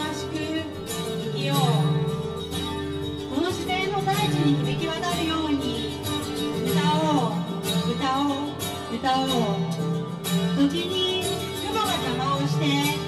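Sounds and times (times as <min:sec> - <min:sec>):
guitar strumming: 0:00.0 - 0:13.0.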